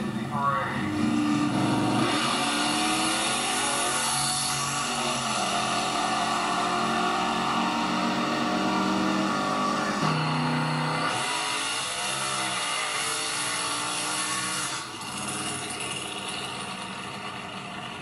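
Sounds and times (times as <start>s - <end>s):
drag car engine at full throttle: 0.0s - 18.0s.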